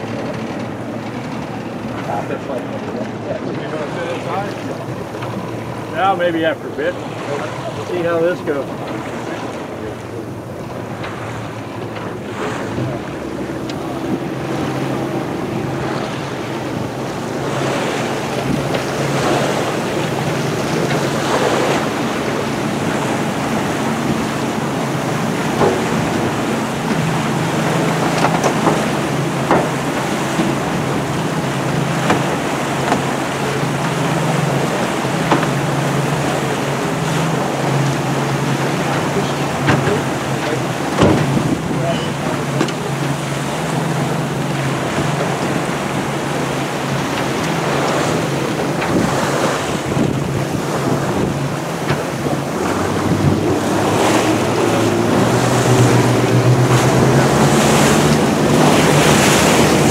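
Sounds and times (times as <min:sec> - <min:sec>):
boat engine running: 0:00.0 - 0:59.9
water rushing and splashing: 0:00.0 - 0:59.9
wind buffeting microphone: 0:00.0 - 0:59.9.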